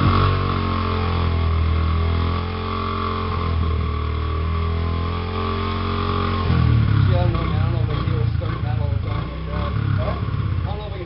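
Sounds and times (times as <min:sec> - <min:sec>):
small dirt bike engine running: 0:00.0 - 0:11.0.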